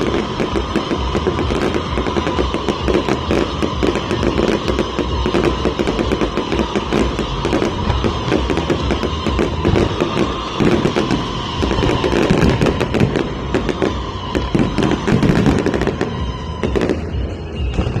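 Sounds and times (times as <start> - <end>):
background music: 0.0 - 18.0
fireworks bangs and crackles: 0.0 - 18.0.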